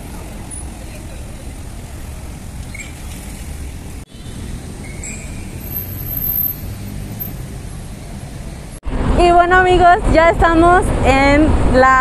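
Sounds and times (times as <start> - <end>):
rumble of passing cars: 0.0 - 12.0.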